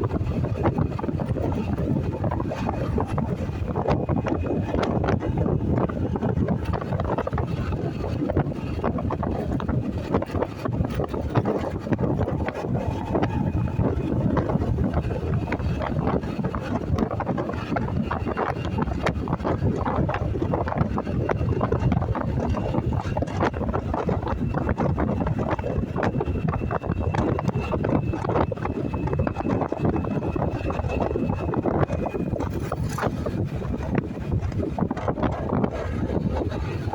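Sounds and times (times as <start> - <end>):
road noise: 0.0 - 36.9
wind buffeting microphone: 0.0 - 36.9.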